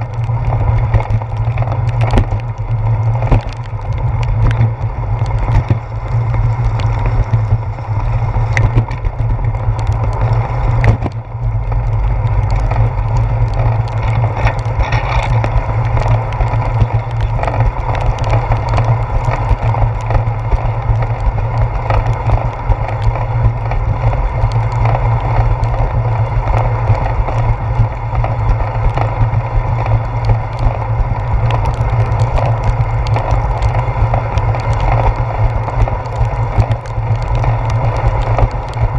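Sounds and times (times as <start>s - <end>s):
bicycle road vibration rumble: 0.0s - 38.9s
small ticks and knocks: 0.0s - 38.9s.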